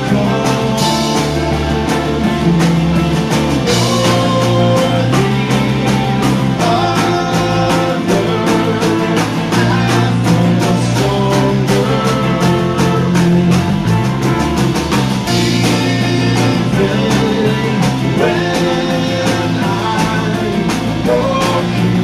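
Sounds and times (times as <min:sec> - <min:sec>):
person singing: 0:00.0 - 0:14.1, 0:15.3 - 0:22.0
bass guitar: 0:00.0 - 0:22.0
electric guitar: 0:00.0 - 0:22.0
steady drum beat: 0:00.0 - 0:22.0.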